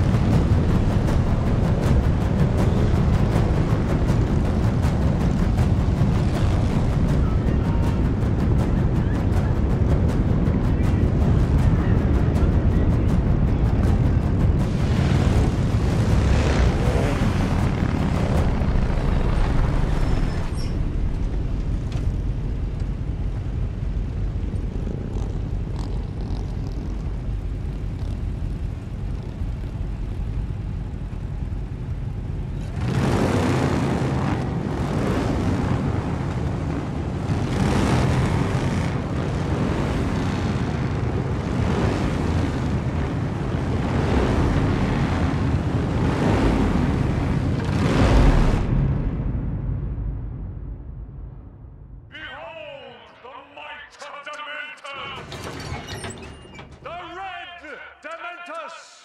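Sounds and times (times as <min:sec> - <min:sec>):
motorcycle engines rumbling: 0:00.0 - 0:48.8.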